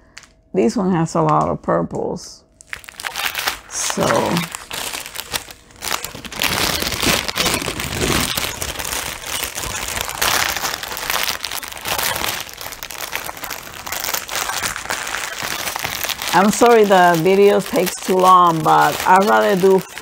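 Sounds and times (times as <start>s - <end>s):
plastic bag crinkling: 2.5s - 20.0s.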